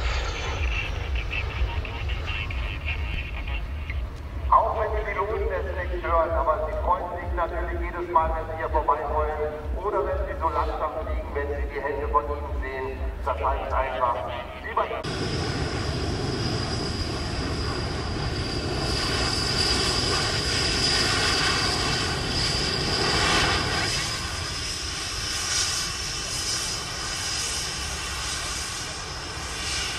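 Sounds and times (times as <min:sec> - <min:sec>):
jet engines rumbling with high whine: 0:00.0 - 0:29.9.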